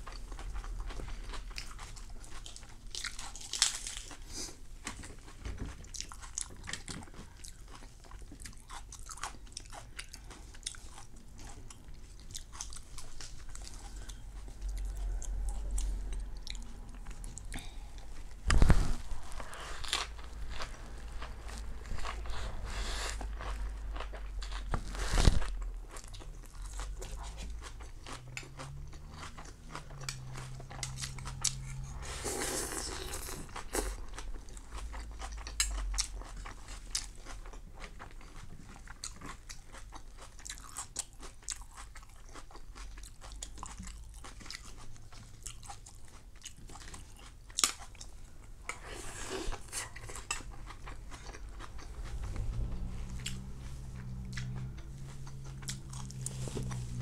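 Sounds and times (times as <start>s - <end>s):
person chewing crispy food: 0.0s - 57.0s.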